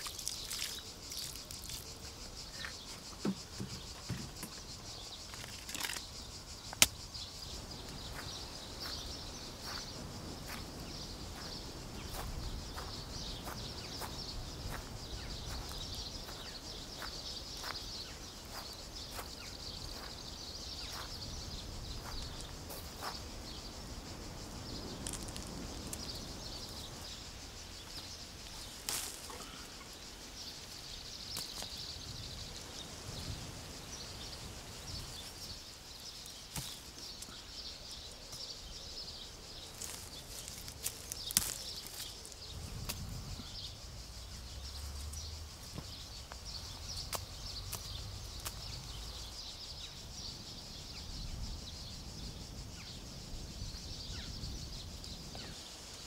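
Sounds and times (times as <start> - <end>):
leaves and branches rustling: 0.0 - 49.3
high insect drone: 0.0 - 56.0.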